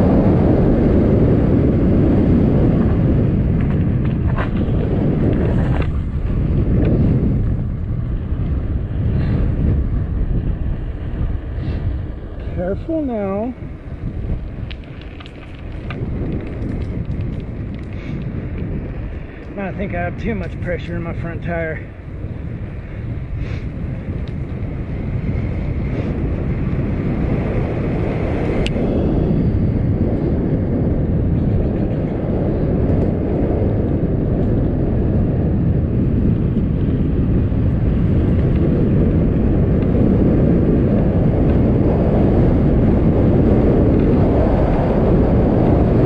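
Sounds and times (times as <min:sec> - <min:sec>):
bike tyres rolling on pavement: 0:00.0 - 0:46.0
wind rushing over microphone: 0:00.0 - 0:46.0.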